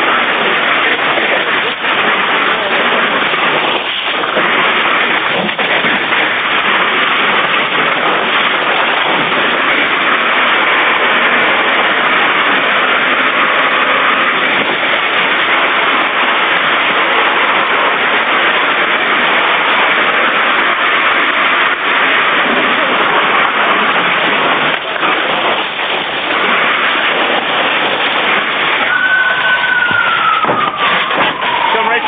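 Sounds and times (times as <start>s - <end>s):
fire hose spraying water: 0.0s - 32.0s.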